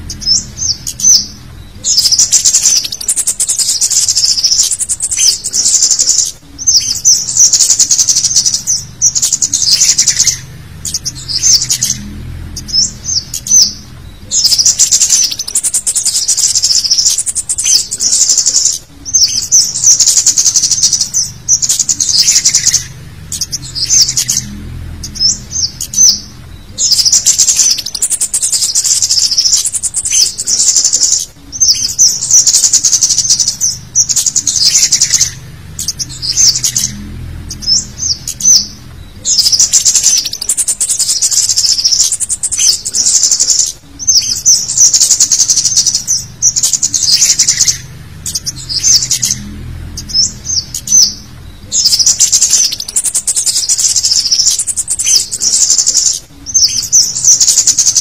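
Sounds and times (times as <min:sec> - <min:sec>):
high-pitched bird chittering: 0:00.0 - 0:58.0.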